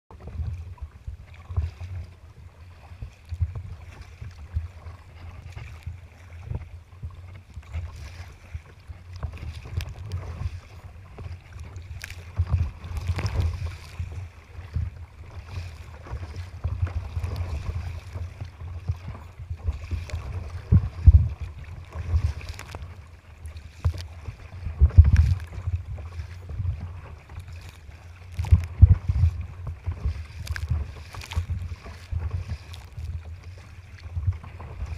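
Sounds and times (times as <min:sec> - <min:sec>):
water splashing around kayak: 0:00.1 - 0:34.9
wind buffeting microphone: 0:00.1 - 0:34.9.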